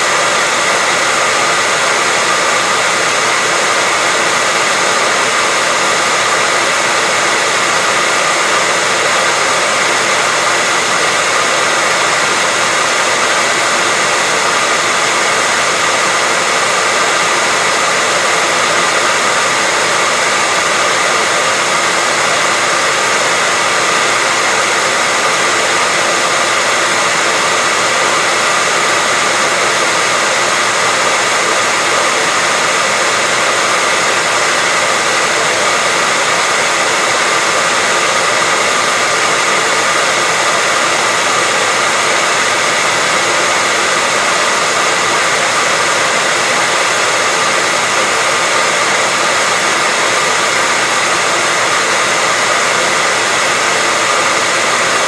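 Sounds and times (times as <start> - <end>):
hairdryer blowing air: 0.0 - 55.0.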